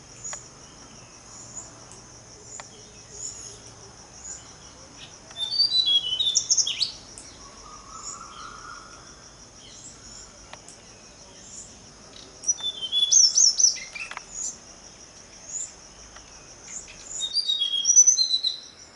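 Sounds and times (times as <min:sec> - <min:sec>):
songbird chirping and trilling: 0:00.0 - 0:18.9.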